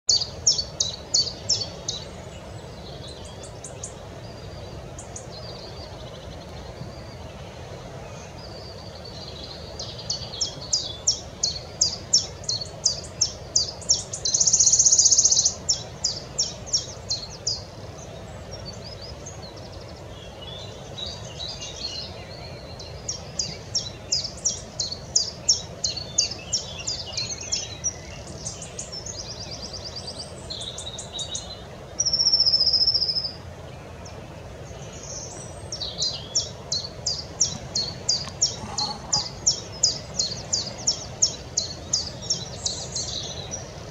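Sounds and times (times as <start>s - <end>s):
warbler ticking trill song: 0.0s - 7.4s, 8.4s - 33.4s, 34.0s - 43.9s
low background noise: 0.1s - 43.9s.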